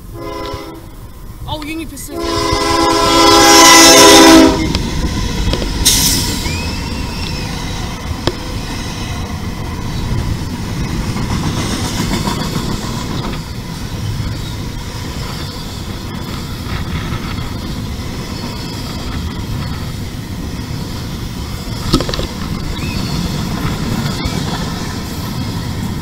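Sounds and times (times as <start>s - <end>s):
freight train wheels rumbling on rail: 0.0s - 26.0s.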